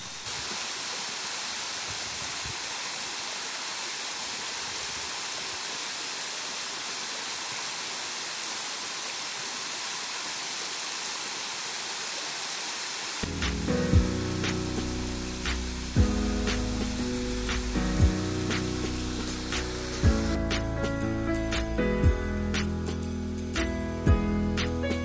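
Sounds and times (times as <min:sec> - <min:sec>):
stream flowing over rocks: 0:00.0 - 0:20.4.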